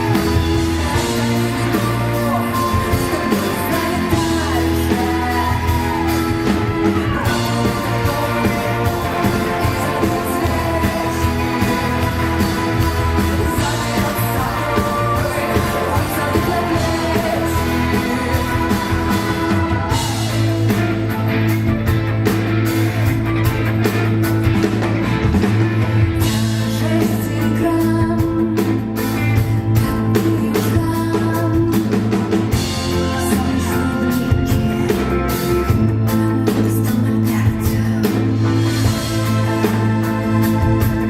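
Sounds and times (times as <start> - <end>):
person singing: 0.0 - 21.0, 26.2 - 41.0
rock band playing: 0.0 - 41.0.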